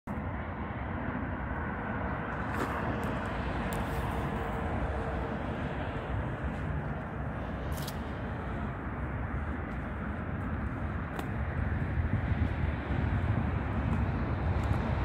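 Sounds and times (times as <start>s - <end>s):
low rumble: 0.2s - 15.0s.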